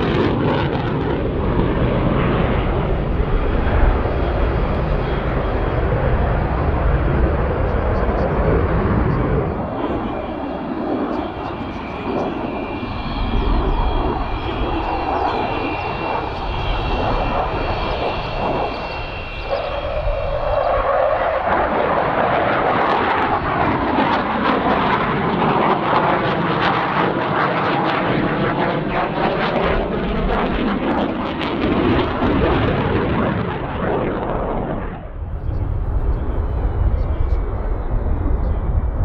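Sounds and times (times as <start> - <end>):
crackling jet rush: 0.0 - 39.0
jet whine: 0.0 - 39.0.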